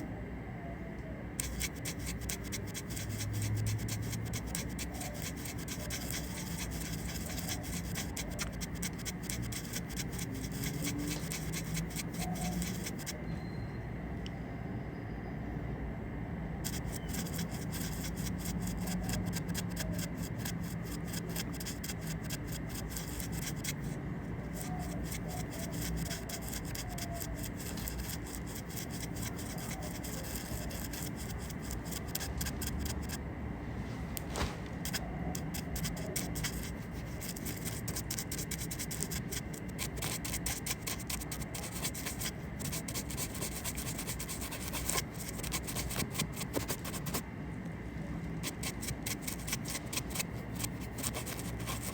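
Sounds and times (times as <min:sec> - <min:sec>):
makeup brushes scratching: 0:01.4 - 0:13.2, 0:16.6 - 0:33.2, 0:33.9 - 0:47.2, 0:48.4 - 0:51.9.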